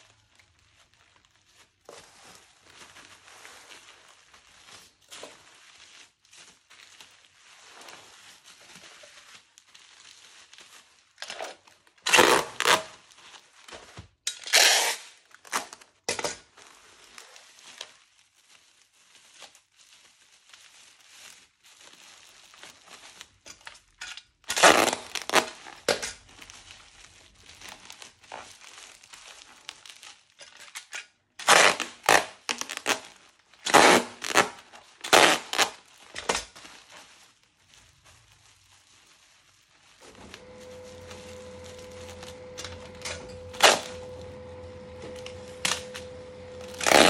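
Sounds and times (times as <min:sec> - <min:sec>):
wrapping crinkling and rustling: 0:00.0 - 0:47.0.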